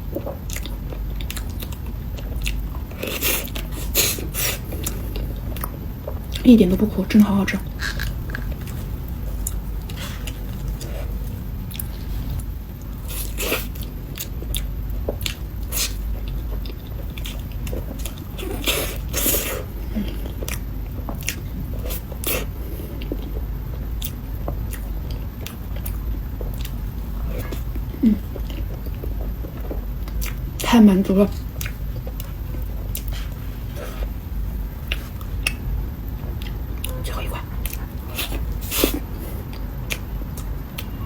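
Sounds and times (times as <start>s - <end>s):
wet chewing and mouth clicks: 0.0s - 6.5s, 7.6s - 30.6s, 31.4s - 40.9s
steady low hum: 0.0s - 41.0s.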